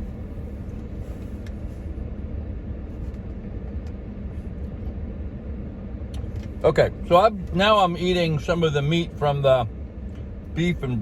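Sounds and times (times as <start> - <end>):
low vehicle rumble in truck cab: 0.0 - 11.0.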